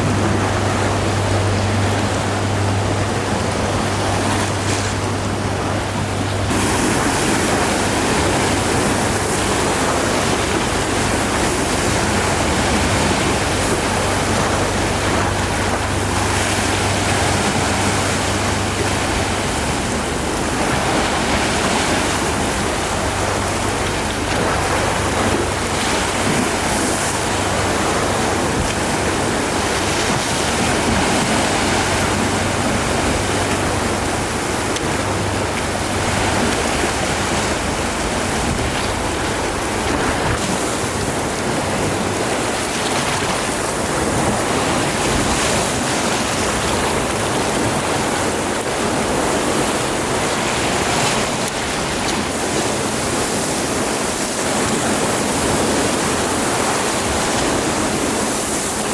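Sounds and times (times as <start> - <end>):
sea waves washing: 0.0 - 58.9.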